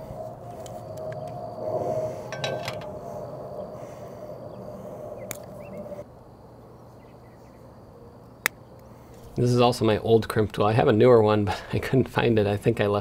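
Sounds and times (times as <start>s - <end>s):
outdoor hum: 0.0s - 13.0s.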